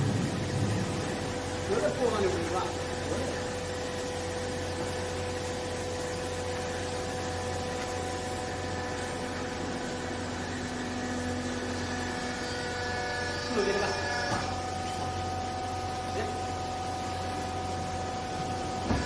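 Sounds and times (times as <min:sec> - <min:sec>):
low machine tone: 0:00.0 - 0:19.0.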